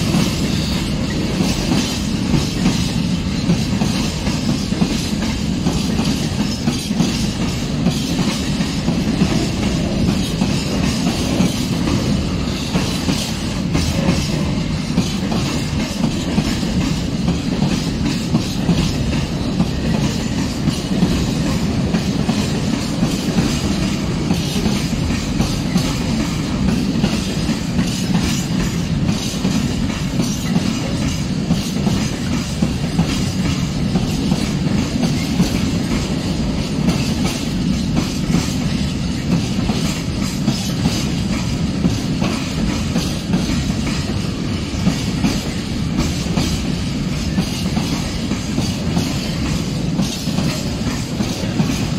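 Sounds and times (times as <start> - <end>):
train wheels rumbling on rails: 0.0 - 51.9
wheels clacking over rail joints: 0.0 - 51.9.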